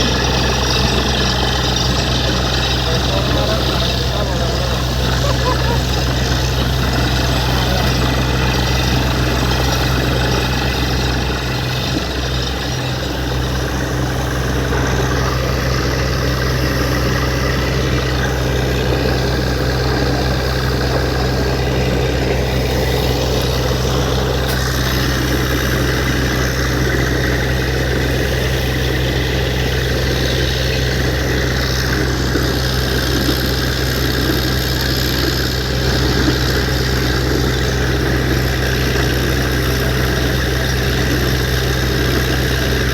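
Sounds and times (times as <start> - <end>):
constant rushing noise: 0.0 - 42.9
drilling rig engine running: 0.0 - 42.9.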